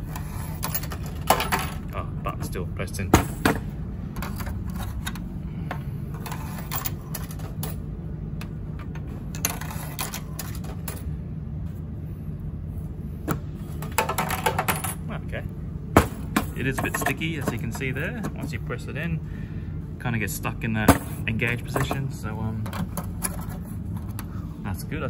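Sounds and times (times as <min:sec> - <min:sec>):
vending machine humming: 0:00.0 - 0:25.0.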